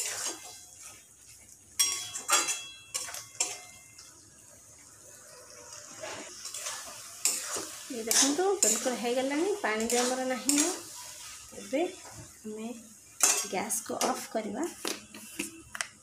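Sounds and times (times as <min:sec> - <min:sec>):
soft stirring of thick curry: 0:00.0 - 0:15.4.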